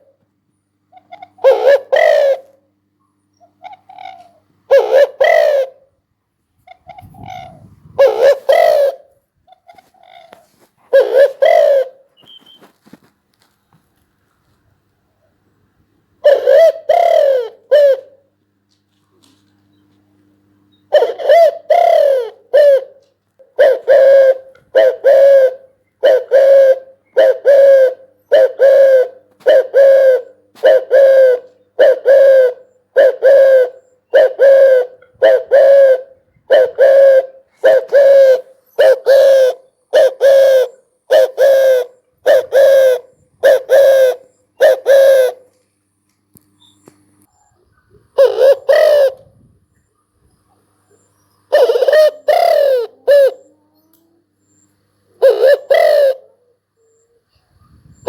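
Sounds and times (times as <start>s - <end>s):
dove cooing: 0.0s - 0.2s, 0.8s - 2.8s, 3.4s - 6.0s, 6.6s - 13.1s, 16.2s - 18.4s, 20.7s - 45.6s, 46.5s - 49.6s, 50.4s - 58.0s.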